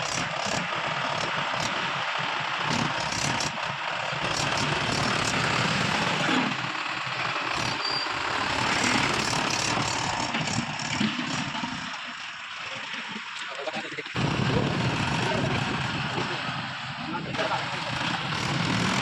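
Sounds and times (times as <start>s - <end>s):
diesel engine throbbing: 0.0s - 19.0s.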